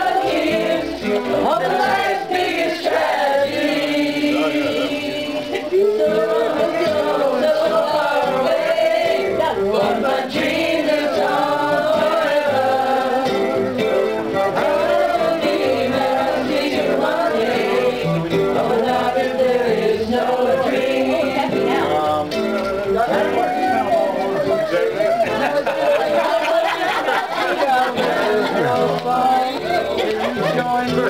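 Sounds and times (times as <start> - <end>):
group of voices singing: 0.0 - 31.0.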